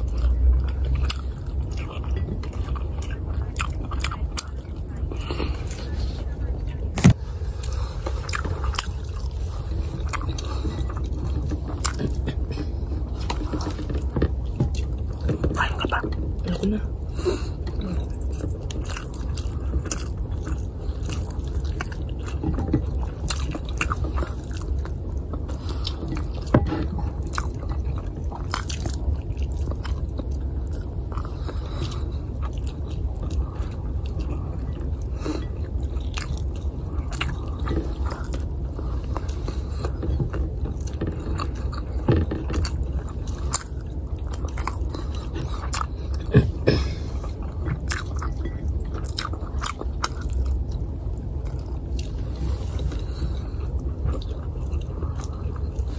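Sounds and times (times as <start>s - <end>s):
chewing and lip-smacking: 0.0s - 55.9s
steady low hum: 0.0s - 55.9s.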